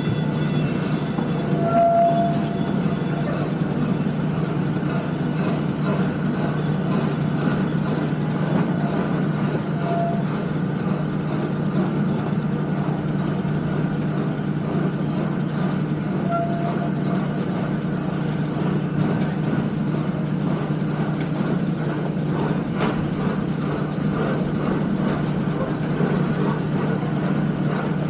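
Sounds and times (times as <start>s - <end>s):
steam train rumbling: 0.0s - 28.0s.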